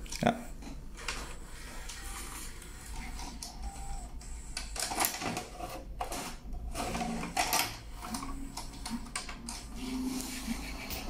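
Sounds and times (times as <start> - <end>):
loading motor whirring: 0.6 - 11.0.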